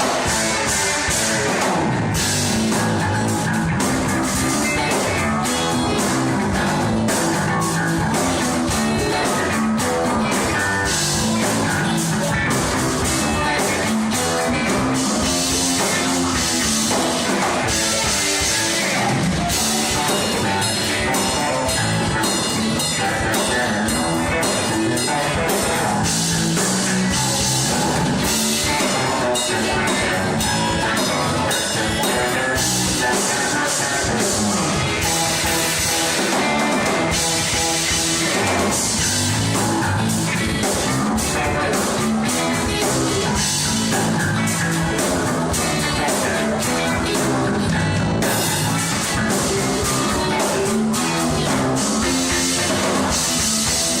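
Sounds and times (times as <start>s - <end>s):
loud rock music: 0.0s - 54.0s.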